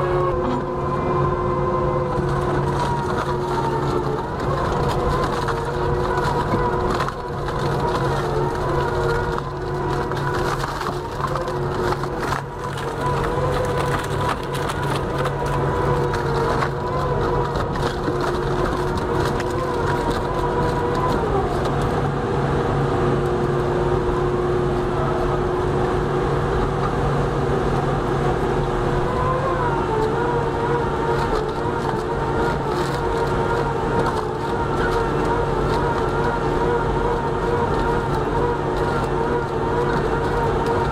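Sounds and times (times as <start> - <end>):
wood shredder droning: 0.0 - 40.9
wood cracking and splintering: 0.1 - 22.1, 29.0 - 40.9.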